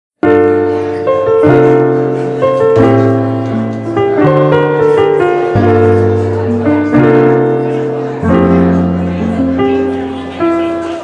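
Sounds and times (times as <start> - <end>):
piano chords: 0.2 - 11.0.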